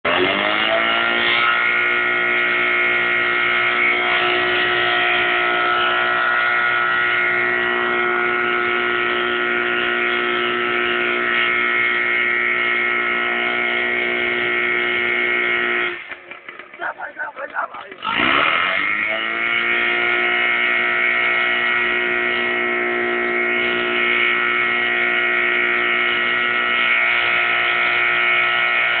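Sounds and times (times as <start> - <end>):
fire pump engine whine: 0.1 - 29.0.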